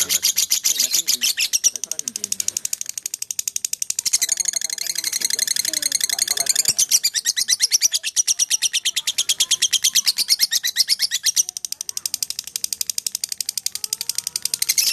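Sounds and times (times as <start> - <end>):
lovebird chattering trill: 0.0 - 14.9.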